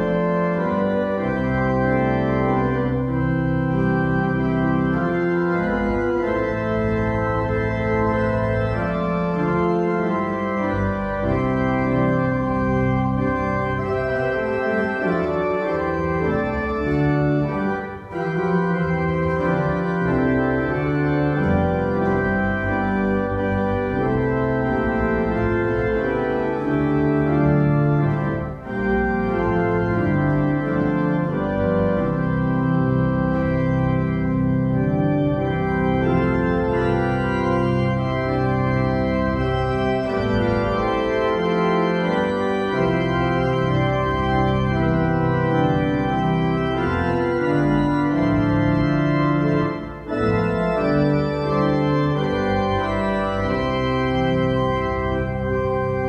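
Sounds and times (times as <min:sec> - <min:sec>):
church organ playing a hymn: 0:00.0 - 0:56.0.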